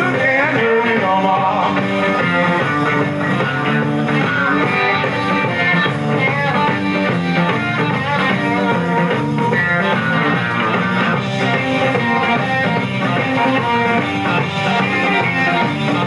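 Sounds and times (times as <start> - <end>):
bass guitar: 0.0 - 16.0
drums: 0.0 - 16.0
electric guitar lines: 0.0 - 16.0.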